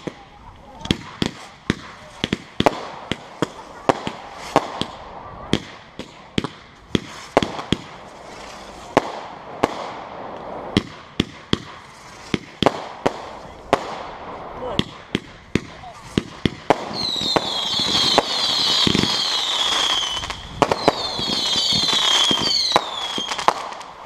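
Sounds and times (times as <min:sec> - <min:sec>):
fireworks bangs and cracks: 0:00.0 - 0:24.0.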